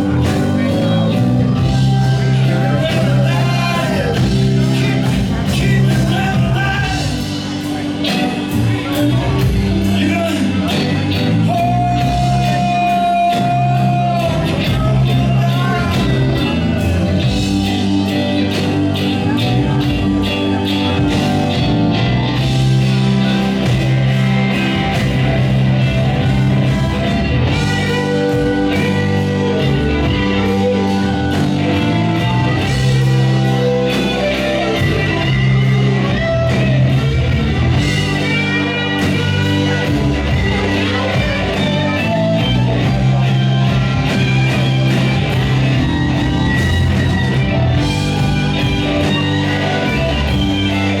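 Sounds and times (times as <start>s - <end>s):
blues-rock band playing: 0.0s - 51.0s
electric guitar: 0.0s - 51.0s.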